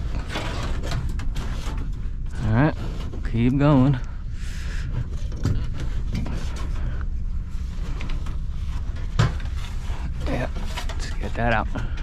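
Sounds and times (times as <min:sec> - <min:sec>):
copper tube scraping and rustling: 0:00.0 - 0:12.0
steady low hum: 0:00.0 - 0:12.0.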